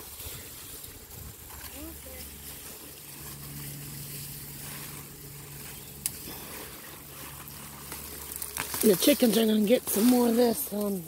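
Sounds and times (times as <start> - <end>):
faint low engine hum: 0.2 - 11.0.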